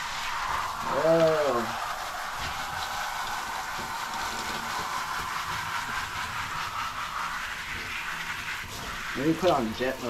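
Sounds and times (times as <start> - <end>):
shower head spraying water: 0.0 - 10.0.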